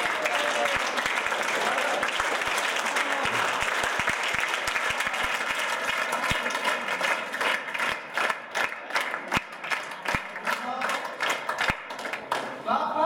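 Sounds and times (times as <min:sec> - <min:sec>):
children clapping: 0:00.0 - 0:12.6.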